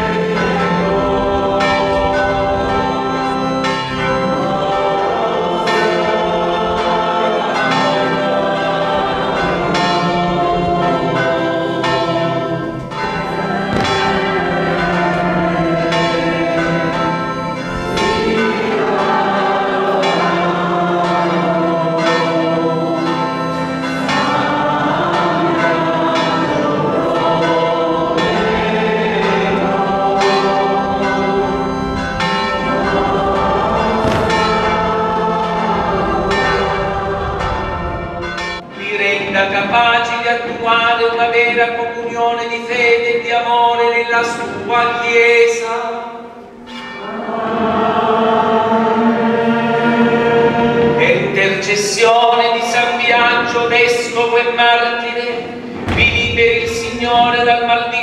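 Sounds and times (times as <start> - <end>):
choral singing: 0.0 - 58.0
church bells pealing: 0.0 - 58.0.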